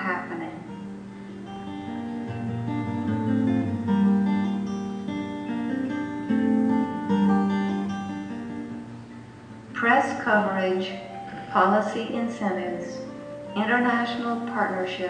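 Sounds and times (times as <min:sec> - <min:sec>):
slow instrumental chords: 0:00.6 - 0:15.0.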